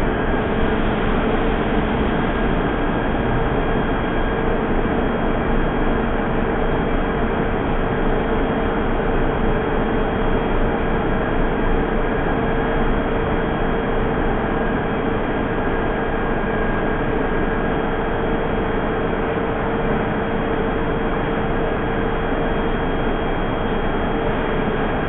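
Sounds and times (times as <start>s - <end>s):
mid-pitched whine of running equipment: 0.0s - 25.0s.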